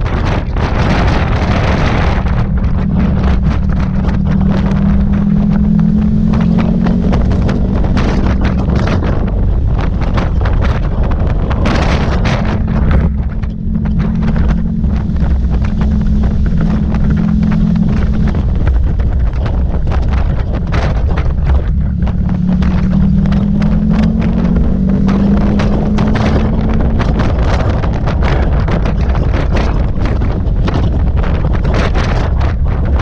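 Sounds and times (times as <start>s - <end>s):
motorcycle engine: 0.0s - 33.0s
wind buffeting microphone: 0.0s - 33.0s.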